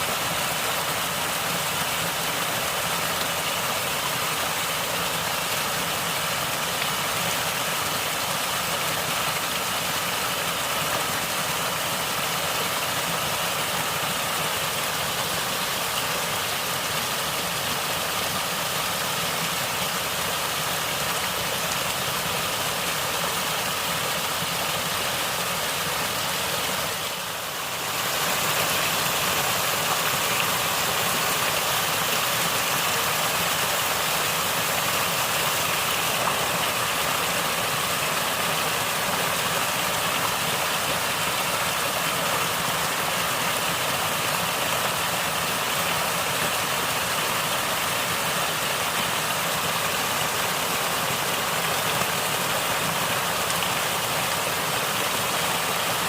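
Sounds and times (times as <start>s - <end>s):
water gurgling and rushing: 0.0s - 56.0s.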